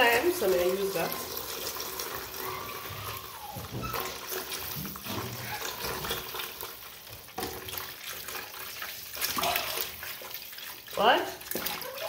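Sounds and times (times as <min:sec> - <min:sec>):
hand washing meat in water: 0:00.0 - 0:12.0
tap water splashing into bowl: 0:00.0 - 0:12.0.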